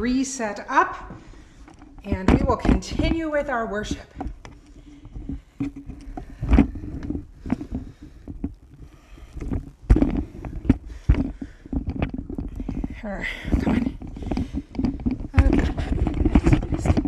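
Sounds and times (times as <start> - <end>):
cloth rubbing on phone microphone: 2.0 - 17.0.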